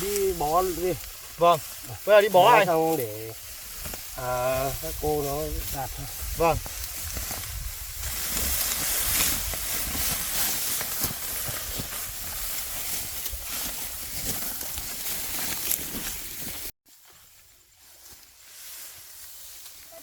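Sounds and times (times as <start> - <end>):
dry rice stalks rustling: 0.0 - 20.0.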